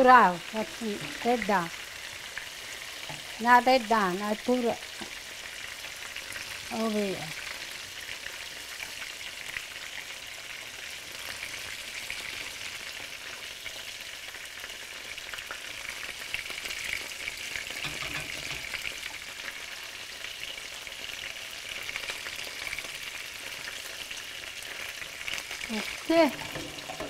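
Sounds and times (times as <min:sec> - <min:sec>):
chicken frying in oil: 0:00.0 - 0:27.0.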